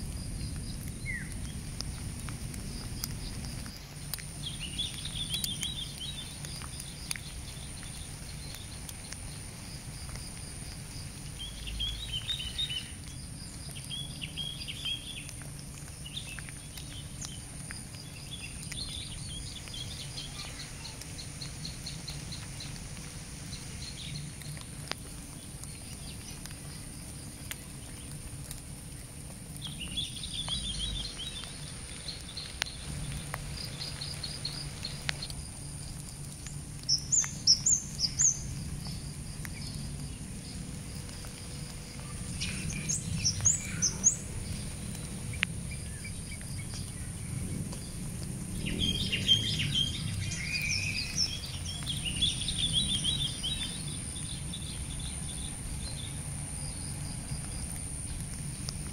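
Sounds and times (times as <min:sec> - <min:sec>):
faint ticks: 0:00.0 - 0:47.0, 0:56.6 - 0:58.9
low background hum: 0:00.0 - 0:58.9
small birds chirping: 0:00.1 - 0:58.9.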